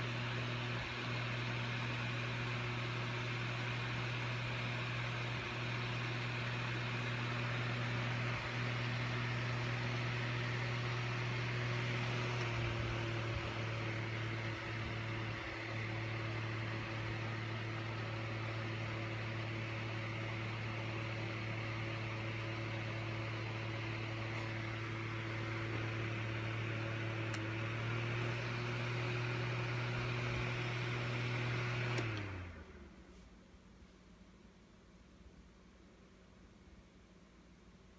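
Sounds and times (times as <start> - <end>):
electric fan humming: 0.0 - 33.2.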